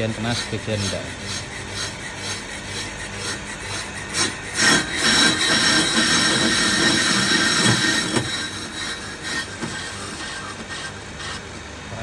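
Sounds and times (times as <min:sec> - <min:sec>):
lathe tool scraping brake disc: 0:00.0 - 0:11.6.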